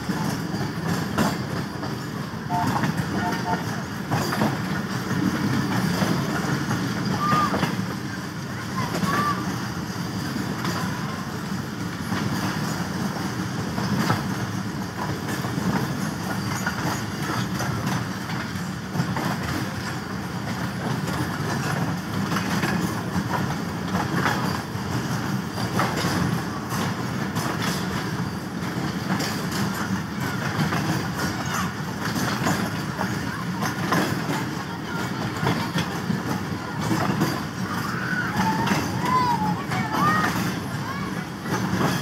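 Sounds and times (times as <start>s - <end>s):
train rumbling on rails: 0.0s - 42.0s.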